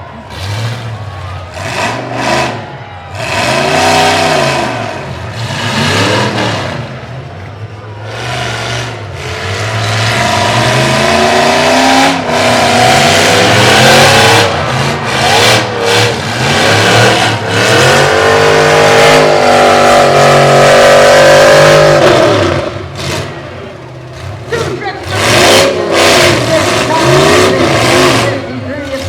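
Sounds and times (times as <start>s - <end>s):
truck engine revving hard: 0.0s - 29.0s.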